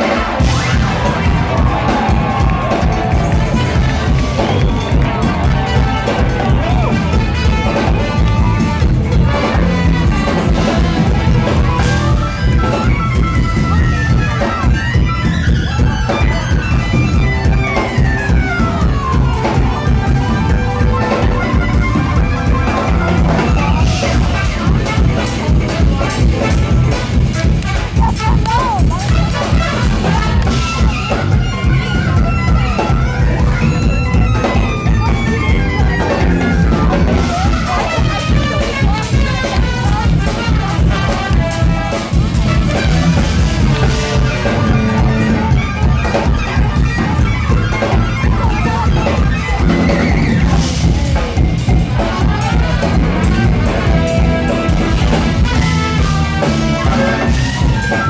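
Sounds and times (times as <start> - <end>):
jazz fusion band playing live: 0.0 - 58.0
saxophone: 0.0 - 58.0
trumpet: 0.0 - 58.0.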